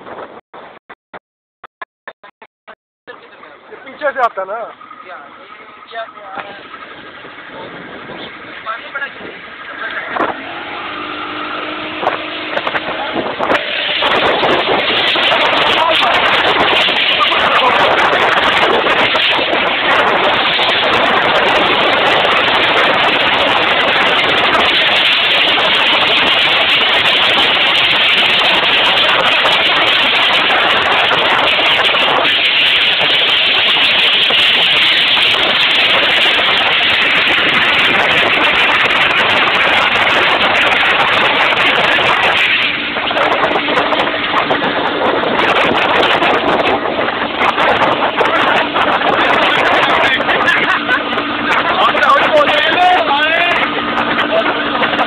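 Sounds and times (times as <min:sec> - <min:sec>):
boat engine hum: 0:03.1 - 0:55.0
speedboat rushing: 0:03.1 - 0:55.0.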